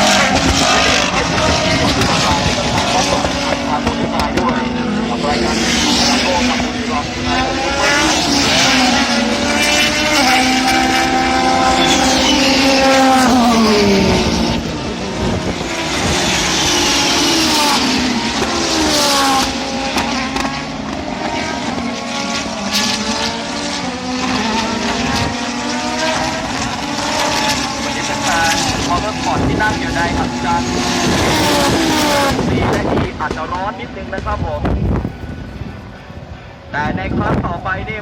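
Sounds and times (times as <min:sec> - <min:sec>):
racing cars passing at speed: 0:00.0 - 0:38.0.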